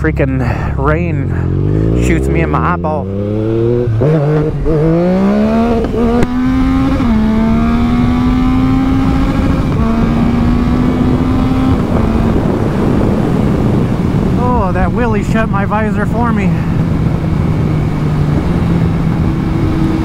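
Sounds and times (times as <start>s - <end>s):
motorcycle engine revving: 0.0s - 20.0s
steady rushing noise: 0.6s - 20.0s.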